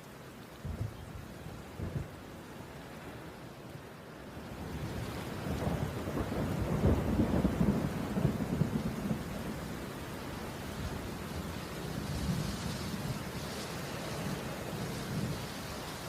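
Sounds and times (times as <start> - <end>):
low crackling rumble: 0.0 - 3.3, 4.5 - 16.0.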